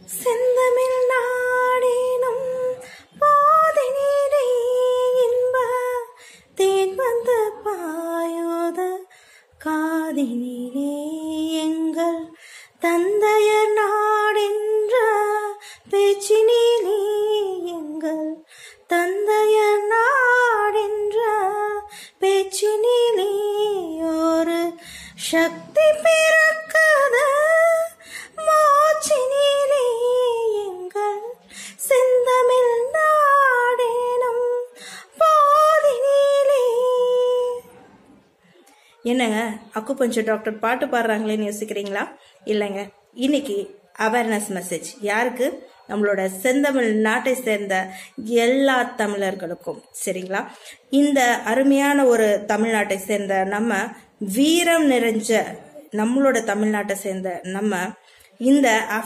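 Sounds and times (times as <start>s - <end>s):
woman singing unaccompanied: 0.0s - 37.8s, 39.0s - 59.0s.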